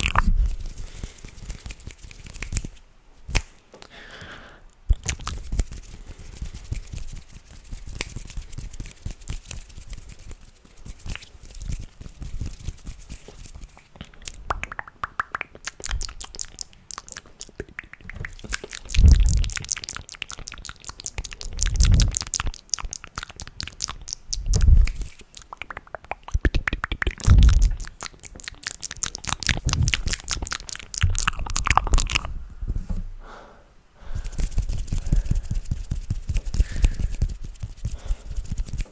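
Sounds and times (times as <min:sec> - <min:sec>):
wet mouth clicks and smacks: 0:00.0 - 0:04.0, 0:04.9 - 0:09.8, 0:13.2 - 0:32.3, 0:34.2 - 0:38.9.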